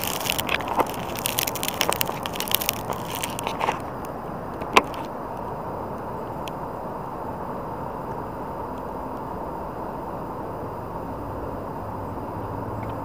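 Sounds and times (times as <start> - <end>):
drone motors humming: 0.0 - 13.0.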